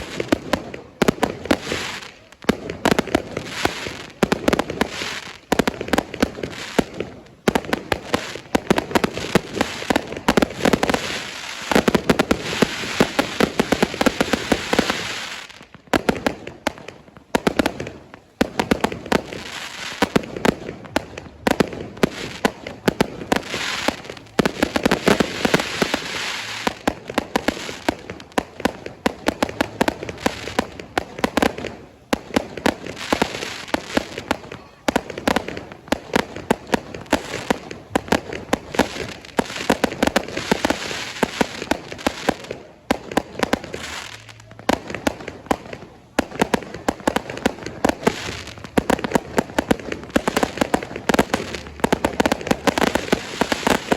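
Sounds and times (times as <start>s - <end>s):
fireworks cracking and banging: 0.0s - 53.9s.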